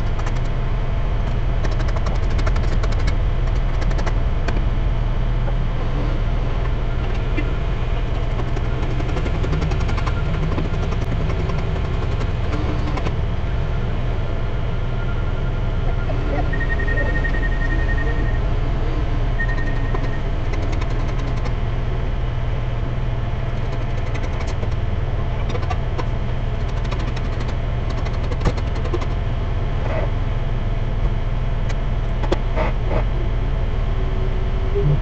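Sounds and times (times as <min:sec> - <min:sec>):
engine droning: 0:00.0 - 0:35.0.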